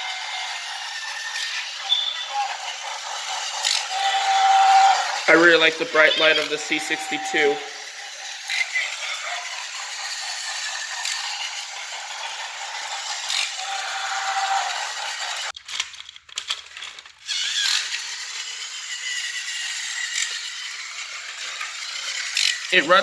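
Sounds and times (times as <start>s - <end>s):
toy train motor whirring: 0.0s - 23.0s.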